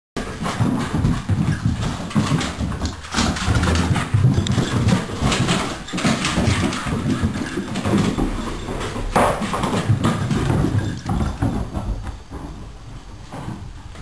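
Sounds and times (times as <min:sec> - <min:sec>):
puppy claws on wooden floor: 0:00.2 - 0:12.5.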